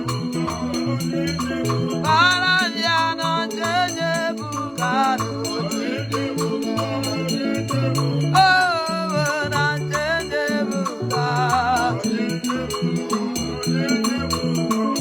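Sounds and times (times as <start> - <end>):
band playing praise music: 0.0 - 15.0
shaker rhythm: 0.0 - 15.0.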